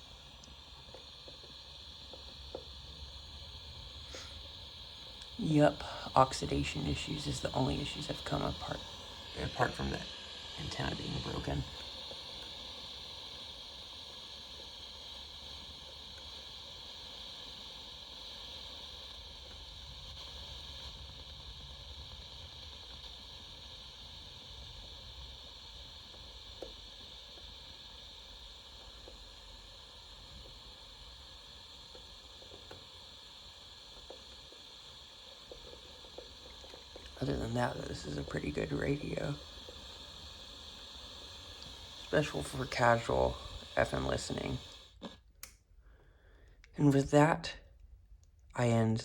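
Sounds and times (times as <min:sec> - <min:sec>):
radio static hiss: 0:00.0 - 0:45.3, 0:46.7 - 0:47.7, 0:48.6 - 0:49.0.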